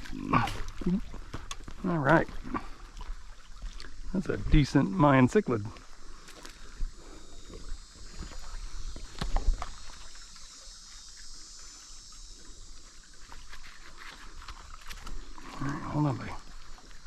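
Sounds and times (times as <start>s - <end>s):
light water sounds: 0.0s - 17.0s.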